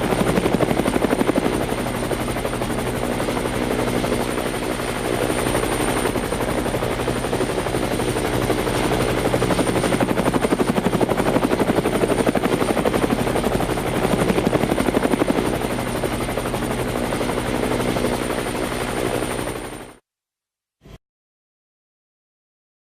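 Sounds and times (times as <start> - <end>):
helicopter rotor blades chopping: 0.0 - 20.0.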